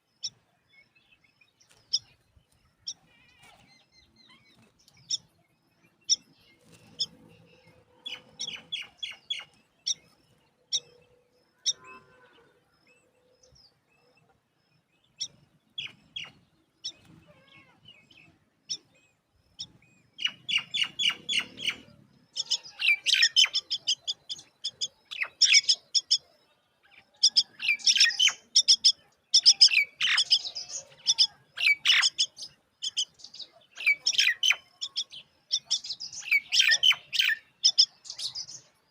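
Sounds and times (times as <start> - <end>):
bird chicks chirping: 0.0 - 38.9.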